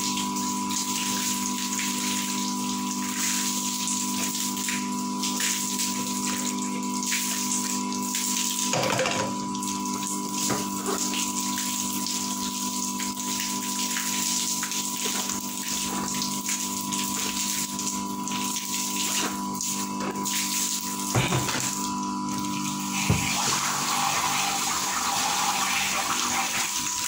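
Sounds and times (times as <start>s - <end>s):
liquid running: 0.0s - 27.0s.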